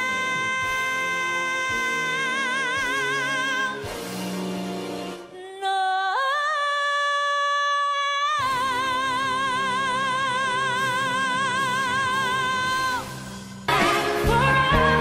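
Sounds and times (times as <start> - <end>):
woman singing soprano with vibrato: 0.0 - 4.0, 5.3 - 15.0
backing music: 0.0 - 5.4, 8.4 - 15.0.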